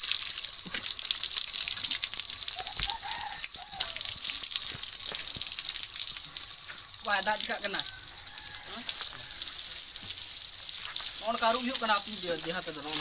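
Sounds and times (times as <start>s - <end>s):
water running from tap: 0.0s - 13.0s
water splashing on face: 0.0s - 13.0s.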